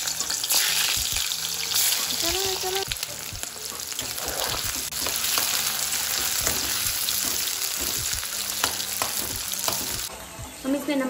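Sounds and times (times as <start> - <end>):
vegetables sizzling in oil: 0.0 - 10.1.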